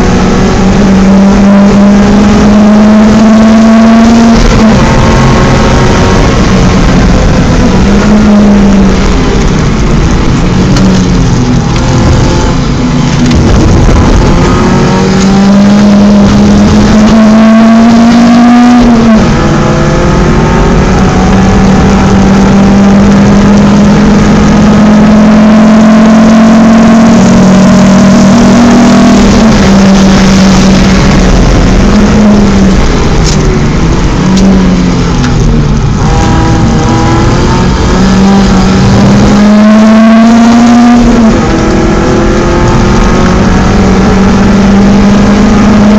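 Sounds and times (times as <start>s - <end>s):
car engine accelerating hard: 0.0s - 45.9s.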